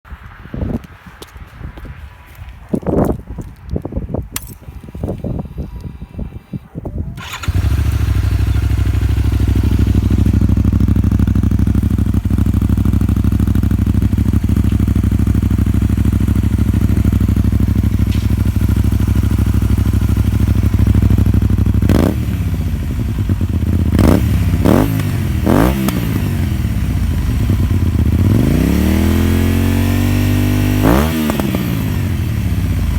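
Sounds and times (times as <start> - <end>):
motorcycle engine idling and revving: 4.4 - 32.9.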